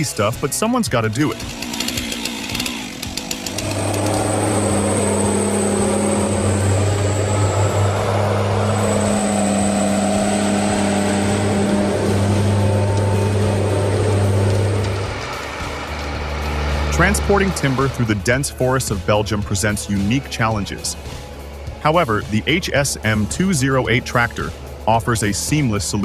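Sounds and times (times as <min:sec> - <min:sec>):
engine humming with high whine: 0:00.0 - 0:26.0.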